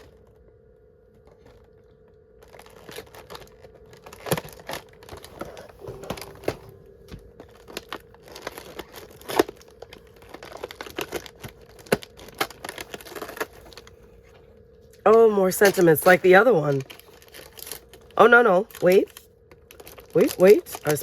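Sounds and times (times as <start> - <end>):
packaging crinkling and tearing: 1.2 - 14.4, 15.5 - 21.0.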